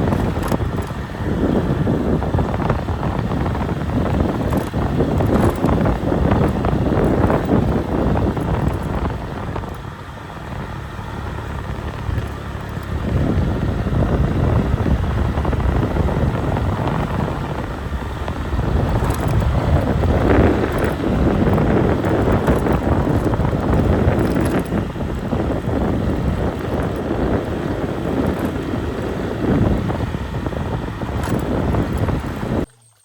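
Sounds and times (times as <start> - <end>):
wind buffeting microphone: 0.0 - 32.7.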